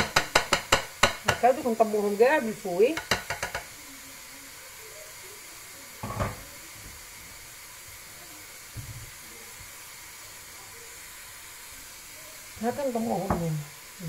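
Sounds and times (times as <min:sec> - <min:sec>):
gas burner hissing: 0:00.0 - 0:14.0.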